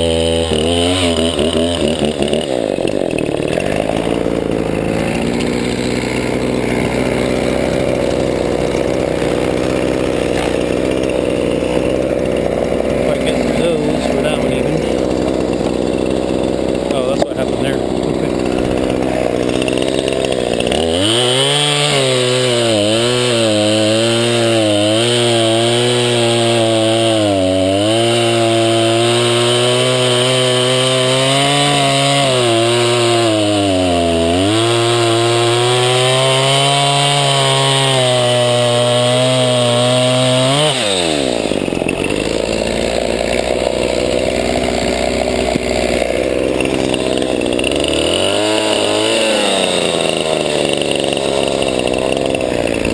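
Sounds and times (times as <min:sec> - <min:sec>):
chainsaw cutting under load: 0:00.0 - 0:52.9.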